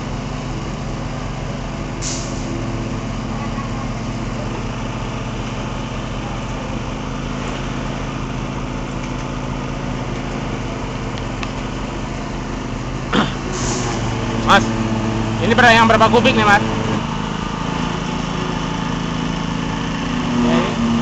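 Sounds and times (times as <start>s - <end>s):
machinery engine running: 0.0s - 21.0s.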